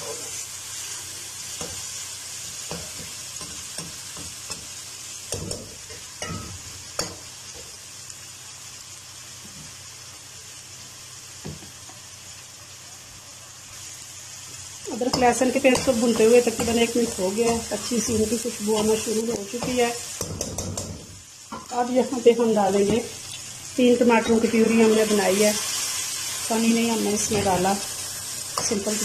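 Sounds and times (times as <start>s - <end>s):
paste frying in oil sizzling: 0.0s - 29.0s.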